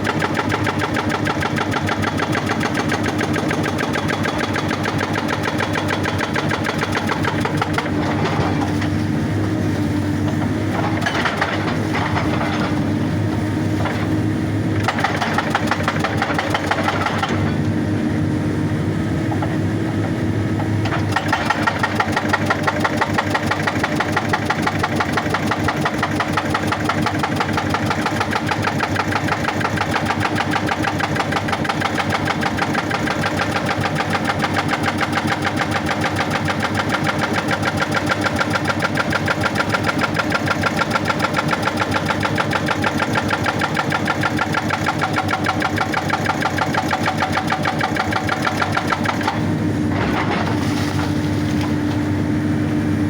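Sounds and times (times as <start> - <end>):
hydraulic breaker hammering rock: 0.0 - 9.6, 10.2 - 17.8, 19.2 - 51.9
excavator engine running: 0.0 - 53.0.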